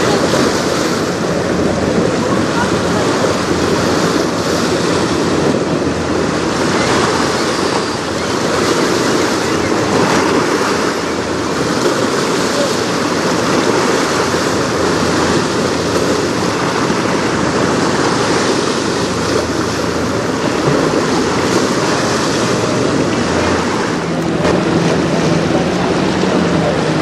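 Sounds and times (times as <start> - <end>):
choppy river waves: 0.0 - 27.0
low motor hum: 0.0 - 27.0
wind rushing over microphone: 0.0 - 27.0.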